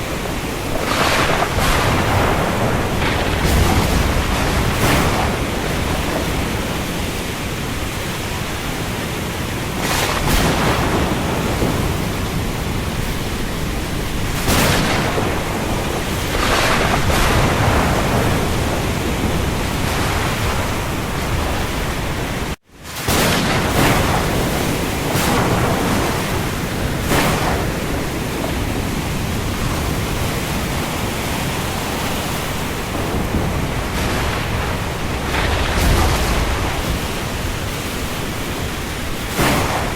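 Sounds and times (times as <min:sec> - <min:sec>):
dense rain hiss: 0:00.0 - 0:39.9.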